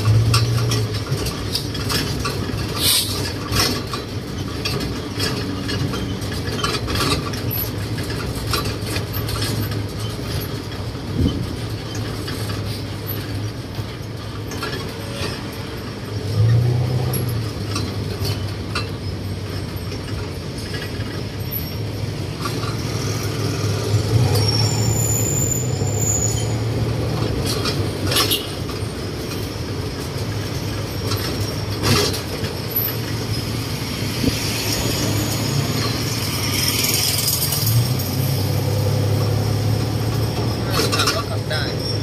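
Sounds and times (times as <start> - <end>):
road and traffic noise: 0.0 - 42.0.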